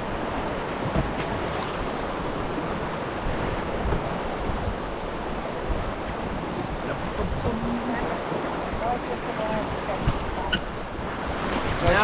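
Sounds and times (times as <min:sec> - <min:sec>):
river water rushing: 0:00.0 - 0:12.0
wind rumbling on microphone: 0:00.0 - 0:12.0.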